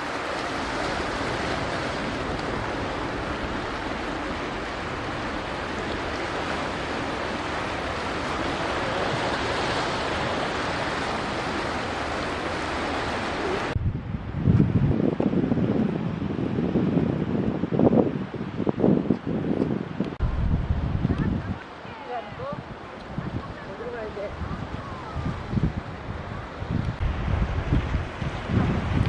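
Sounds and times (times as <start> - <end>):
sea surf washing against shore: 0.0 - 29.0.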